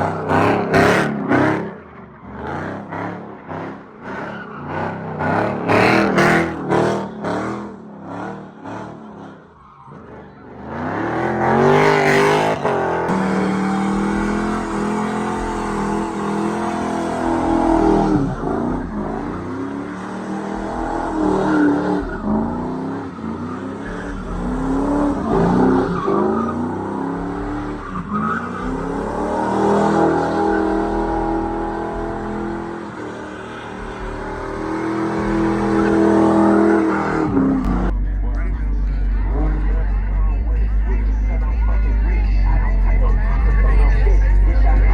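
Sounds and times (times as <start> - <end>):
tires squealing and skidding: 0.0 - 38.0
car engine revving: 0.0 - 44.9.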